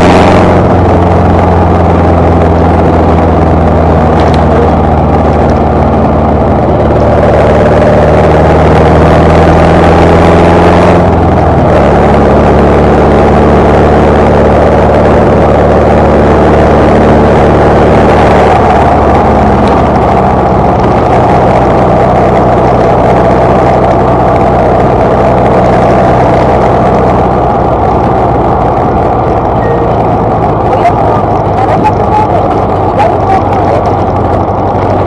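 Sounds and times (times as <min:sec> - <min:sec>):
car engine running: 0:00.0 - 0:35.0
wind and road noise: 0:00.0 - 0:35.0.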